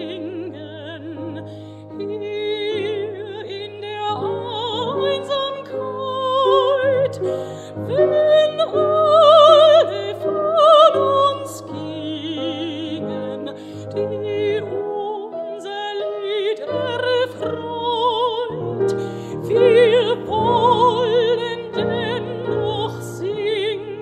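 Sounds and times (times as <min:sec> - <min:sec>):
piano accompaniment: 0:00.0 - 0:24.0
woman singing with vibrato: 0:00.0 - 0:24.0.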